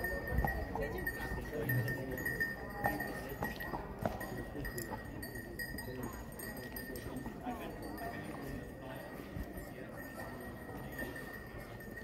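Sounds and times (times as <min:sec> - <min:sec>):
horse hooves clip-clopping: 0:00.0 - 0:12.0
murmur of voices: 0:00.0 - 0:12.0.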